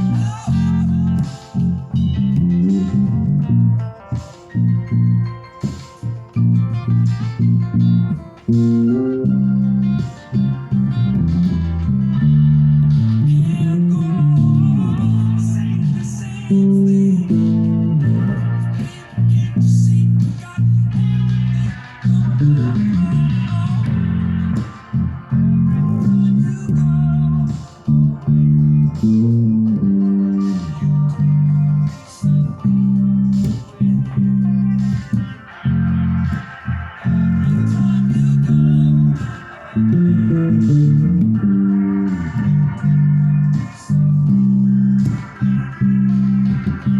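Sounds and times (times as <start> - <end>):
guitar music with bass line: 0.0 - 46.9.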